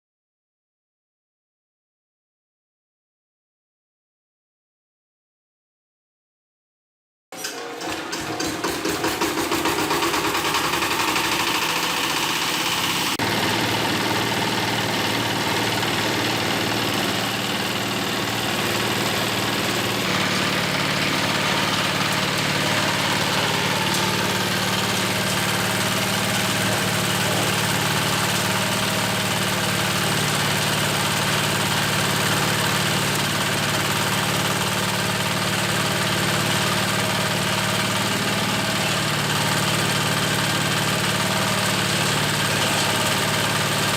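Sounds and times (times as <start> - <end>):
waste chopper machine droning: 7.8 - 43.9.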